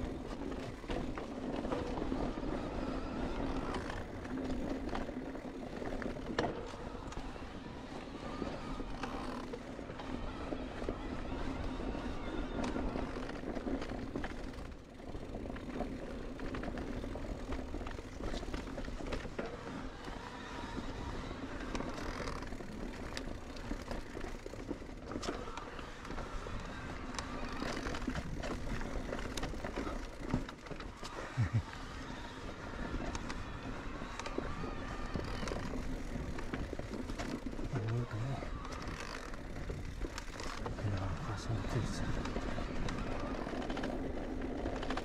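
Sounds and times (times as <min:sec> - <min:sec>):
bike clicks and rattles: 0:00.0 - 0:45.0
tyres rolling over dirt: 0:00.0 - 0:45.0.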